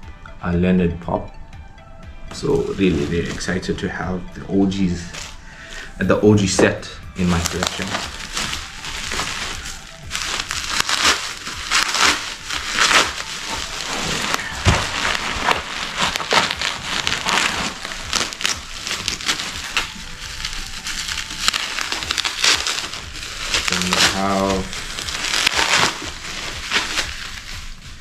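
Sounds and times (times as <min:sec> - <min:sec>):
packaging crinkling: 0:01.1 - 0:28.0.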